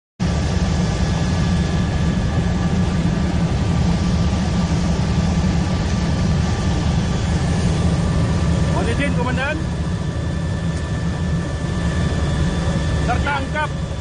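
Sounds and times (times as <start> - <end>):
helicopter engine and rotor drone: 0.2 - 14.0.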